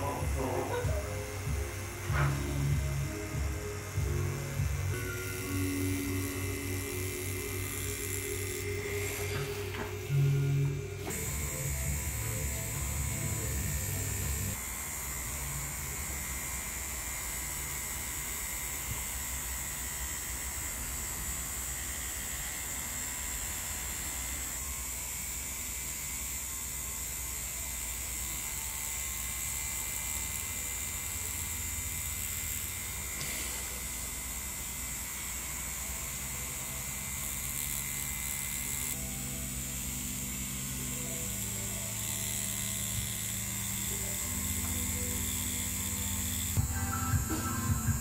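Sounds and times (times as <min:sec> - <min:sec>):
tattoo machine buzzing: 0:00.0 - 0:48.0.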